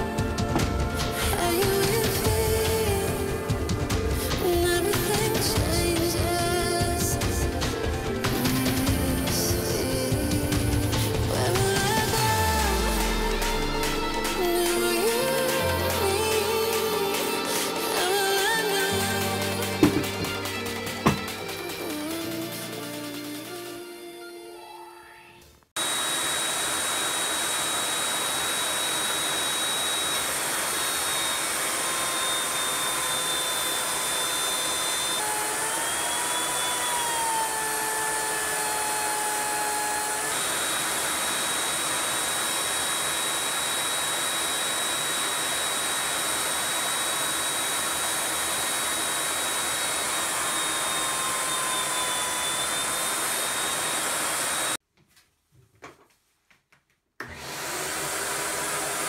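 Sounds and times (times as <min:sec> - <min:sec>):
router bit cutting wood: 0:00.0 - 0:25.1, 0:25.8 - 0:54.8, 0:57.2 - 0:59.0
router high whine: 0:00.0 - 0:25.1, 0:25.8 - 0:54.8, 0:57.2 - 0:59.0.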